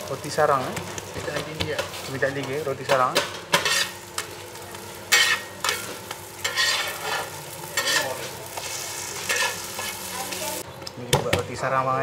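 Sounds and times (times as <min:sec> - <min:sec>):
flatbread sizzling on griddle: 0:00.0 - 0:10.7
scraping on griddle: 0:00.2 - 0:10.6.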